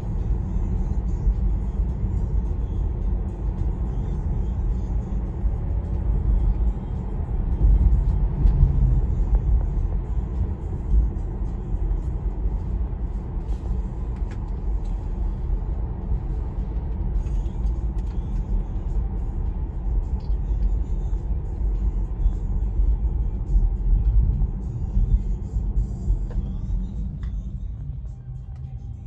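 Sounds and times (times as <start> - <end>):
road and tyre rumble: 0.0 - 29.0.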